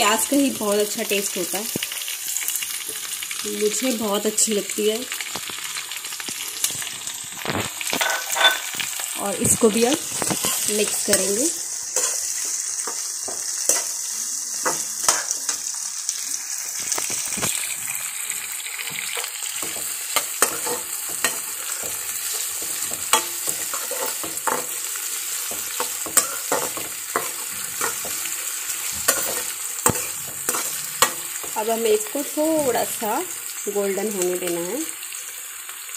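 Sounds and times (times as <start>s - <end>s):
onions sizzling in oil: 0.0s - 35.9s.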